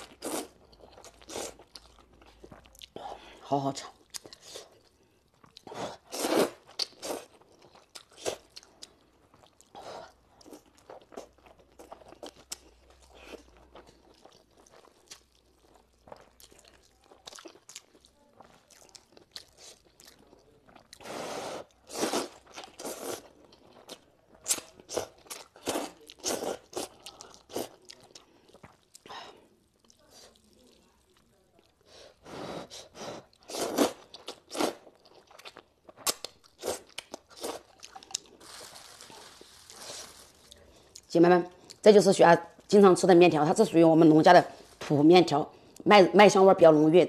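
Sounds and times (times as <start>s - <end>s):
person slurping and chewing noodles: 0.0s - 3.1s, 4.0s - 41.8s.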